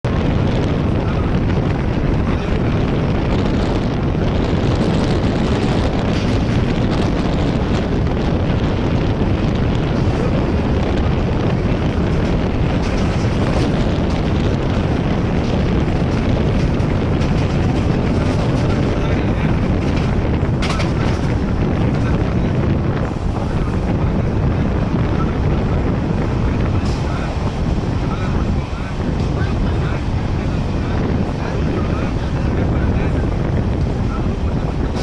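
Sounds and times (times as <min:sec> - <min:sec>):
wind buffeting microphone: 0:00.0 - 0:35.0
train wheels on track: 0:00.1 - 0:35.0.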